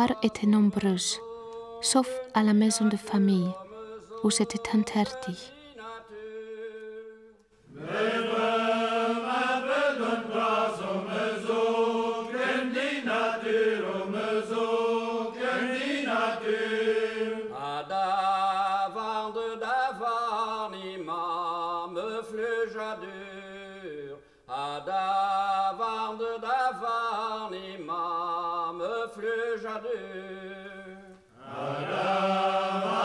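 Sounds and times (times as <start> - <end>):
slow chant-like singing: 0.0 - 33.0.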